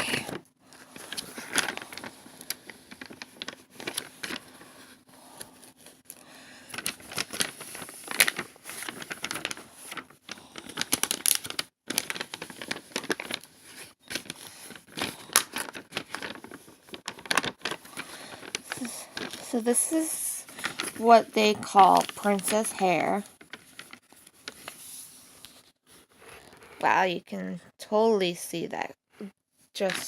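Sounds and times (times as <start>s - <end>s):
plastic and paper crinkling: 0.0s - 27.0s, 29.8s - 30.0s.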